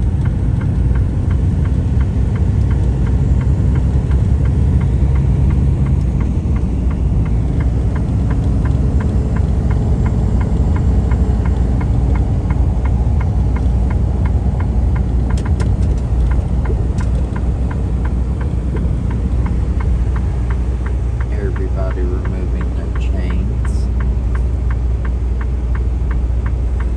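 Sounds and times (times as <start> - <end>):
diesel engine rumbling: 0.0 - 26.9
light regular ticking: 0.0 - 26.9.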